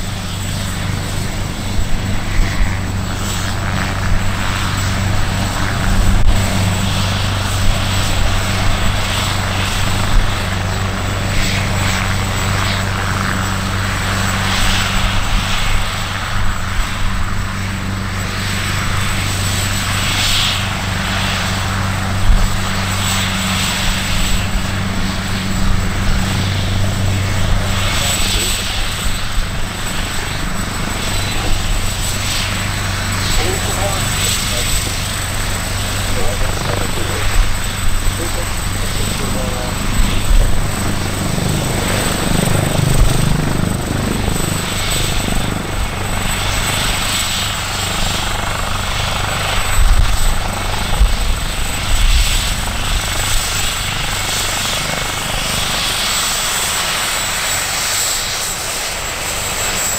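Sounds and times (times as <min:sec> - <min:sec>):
helicopter rotor and engine hum: 0:00.0 - 0:59.9
high turbine whine: 0:00.0 - 0:59.9.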